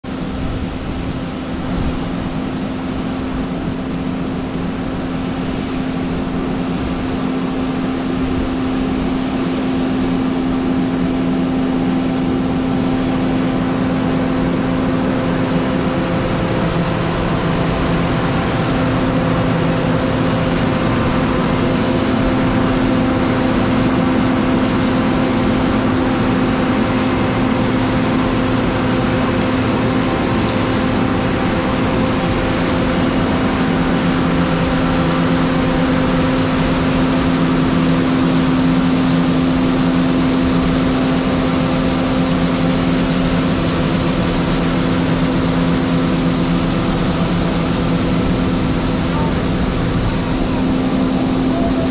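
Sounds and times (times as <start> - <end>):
low machine tone: 0.0 - 51.9
steady machine hum: 0.0 - 51.9.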